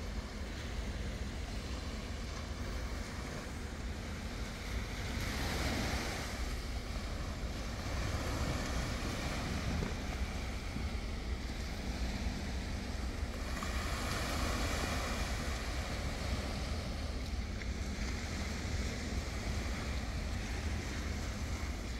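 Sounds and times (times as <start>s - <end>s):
low wind rumble on microphone: 0.0s - 21.9s.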